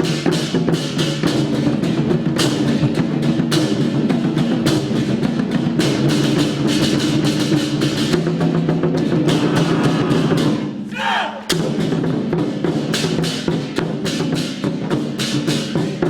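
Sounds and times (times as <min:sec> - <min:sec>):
drum with cymbals and gong: 0:00.0 - 0:16.0.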